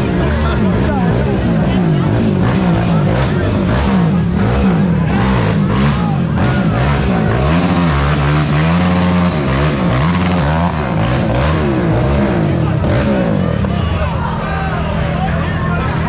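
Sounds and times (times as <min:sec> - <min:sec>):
atv engines revving: 0:00.0 - 0:16.0.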